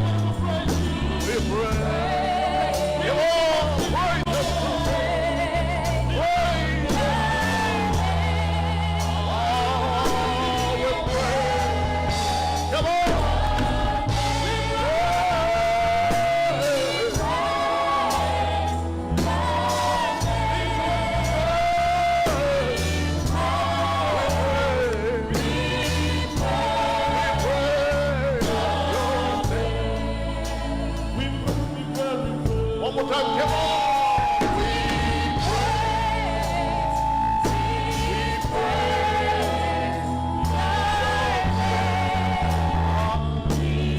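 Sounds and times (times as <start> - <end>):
gospel singing with band: 0.0 - 43.9.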